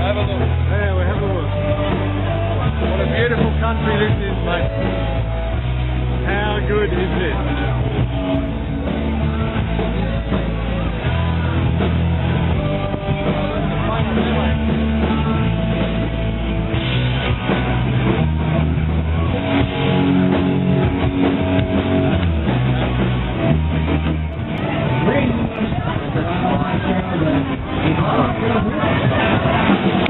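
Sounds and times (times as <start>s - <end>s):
bass line: 0.0s - 30.0s
rock music with guitar: 0.0s - 30.0s.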